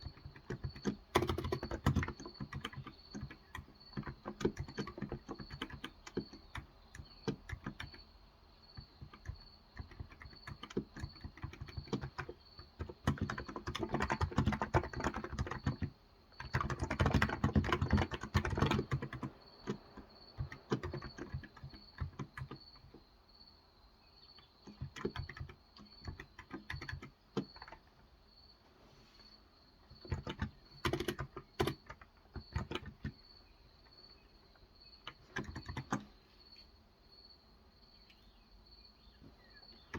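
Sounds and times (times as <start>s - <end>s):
typing on a keyboard: 0.0s - 23.0s, 24.3s - 28.0s, 29.8s - 36.2s, 39.2s - 39.9s.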